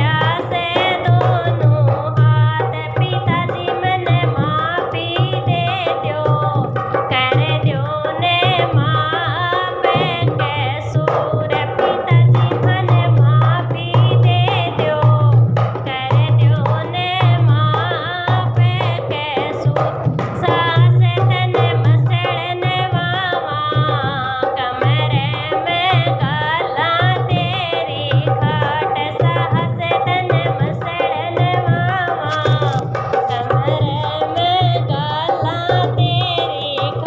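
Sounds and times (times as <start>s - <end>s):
hand drum rhythm: 0.0s - 37.0s.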